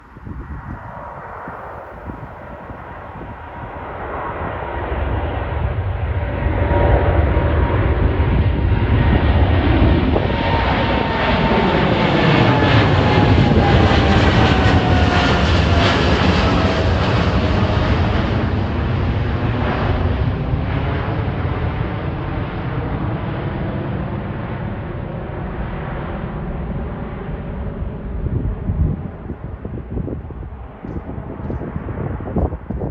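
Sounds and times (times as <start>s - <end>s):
jet airliner passing by: 0.0s - 32.9s.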